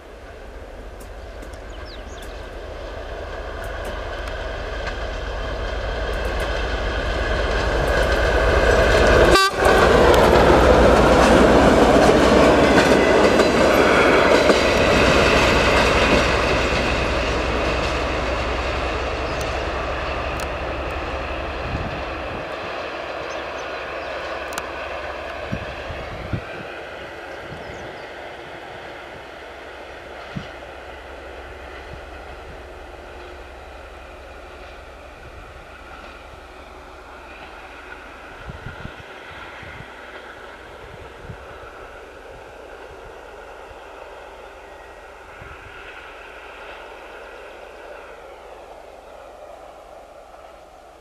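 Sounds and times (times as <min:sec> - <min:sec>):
diesel locomotive engine: 0:00.0 - 0:51.0
train wheels rumbling on rails: 0:00.0 - 0:51.0.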